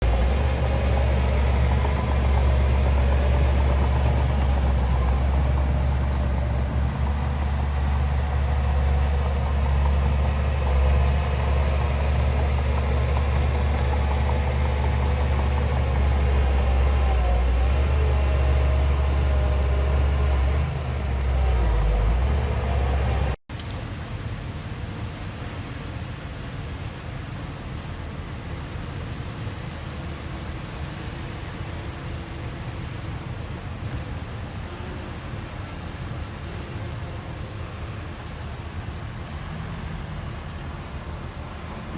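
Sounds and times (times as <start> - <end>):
heavy diesel engine rumbling: 0.0 - 41.9
steady hiss: 0.0 - 41.9.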